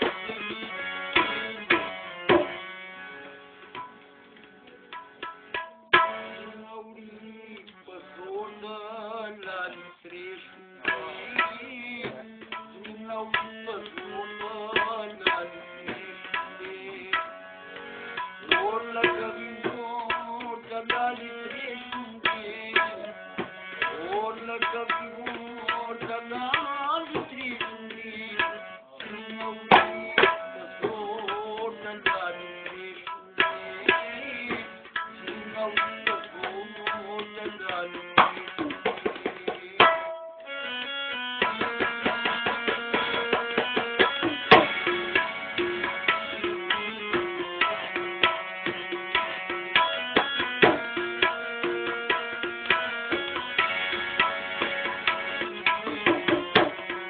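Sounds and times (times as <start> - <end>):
tabla drums rhythm: 0.0 - 6.6, 9.4 - 57.0
harmonium melody and drone: 0.0 - 57.0.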